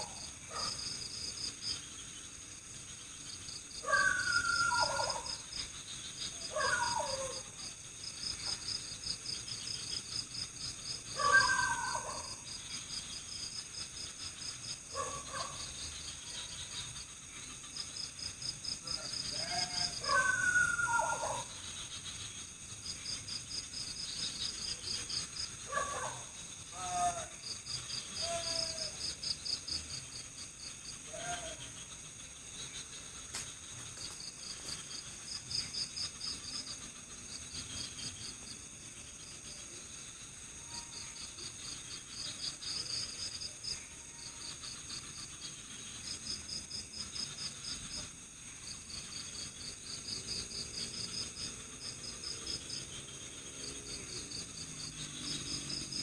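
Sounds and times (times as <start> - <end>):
crickets trilling: 0.0 - 56.0
high insect drone: 0.0 - 56.0.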